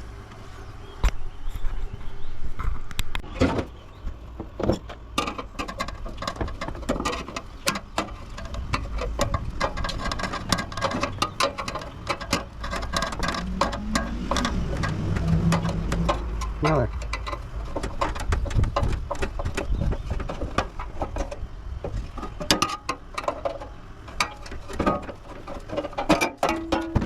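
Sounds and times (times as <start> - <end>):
parts clattering and clicking: 3.0 - 27.0.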